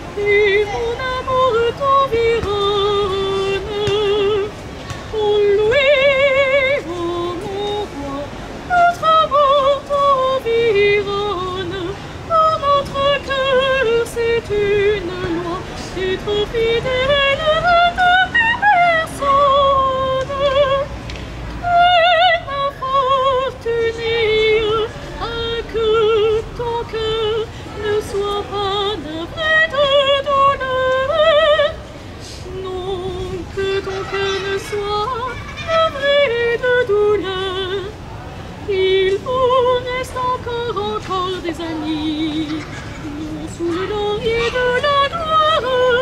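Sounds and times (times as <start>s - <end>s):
woman singing operatically: 0.1s - 20.9s, 21.6s - 38.0s, 38.7s - 46.0s.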